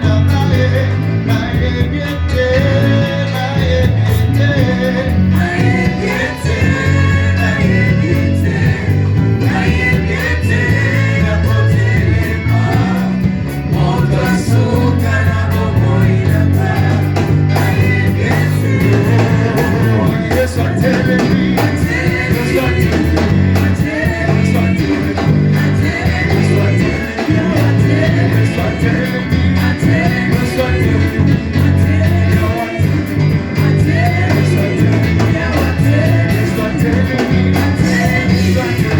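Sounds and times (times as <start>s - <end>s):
amplified band with bass: 0.0s - 38.9s
voices singing gospel: 0.0s - 38.9s.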